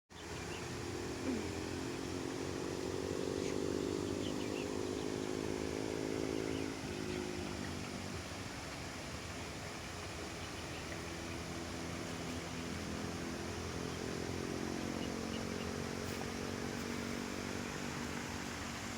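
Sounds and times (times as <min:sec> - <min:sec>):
steady rushing background noise: 0:00.2 - 0:18.9
vehicle engine passing: 0:00.2 - 0:18.9.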